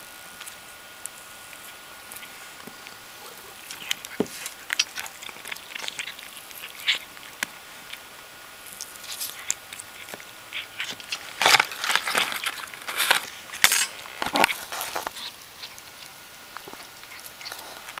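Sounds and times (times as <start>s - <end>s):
paper wrapper crackling and tearing: 2.2s - 8.0s, 8.8s - 18.0s.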